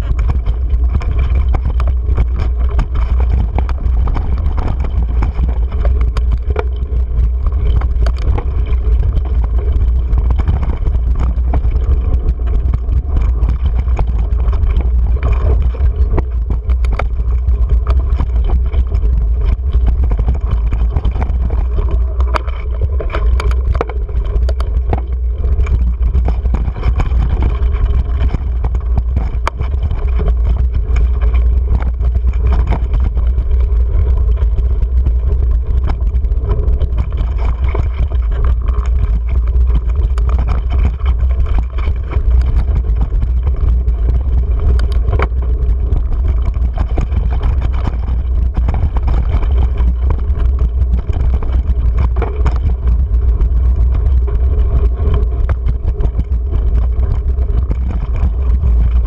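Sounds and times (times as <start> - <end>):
bike rattling over stones: 0.0 - 59.0
wind rumble on microphone: 0.0 - 59.0.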